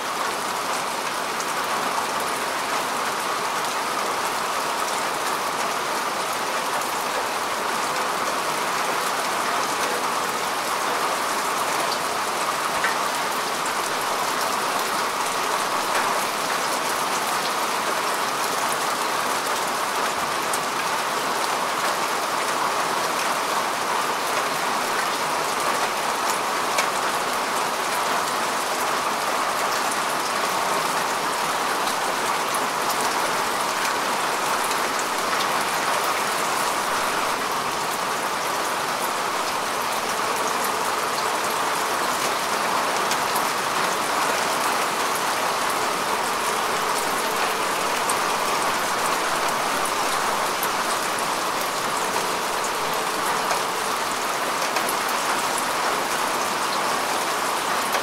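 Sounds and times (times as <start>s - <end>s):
rain falling on grass: 0.0s - 58.0s.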